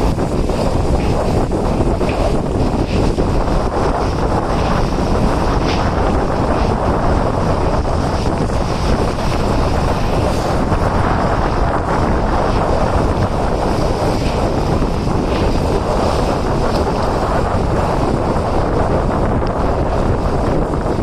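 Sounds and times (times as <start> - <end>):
train running noise: 0.0 - 21.0
wind rushing over microphone: 0.0 - 21.0.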